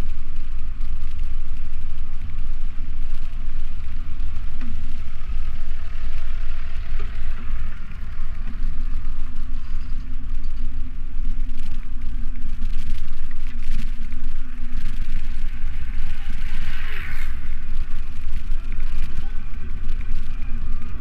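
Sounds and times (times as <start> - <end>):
faint steady hum: 0.0 - 21.0
wind buffeting microphone: 0.0 - 21.0.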